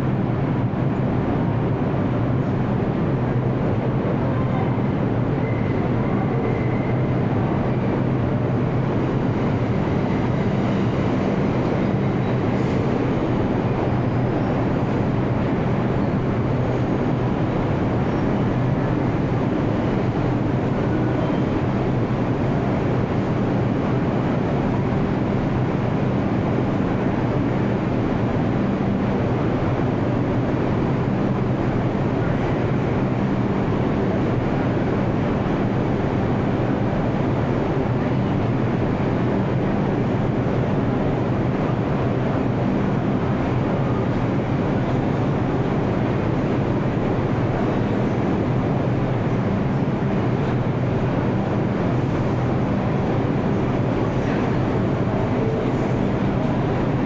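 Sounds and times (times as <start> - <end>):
subway station rumble: 0.0 - 57.0.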